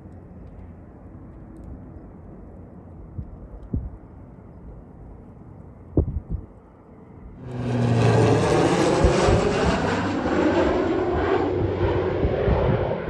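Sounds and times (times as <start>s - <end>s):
low hum: 0.0s - 13.0s
turboprop aircraft drone: 0.0s - 13.0s
wind rumble on microphone: 0.0s - 13.0s.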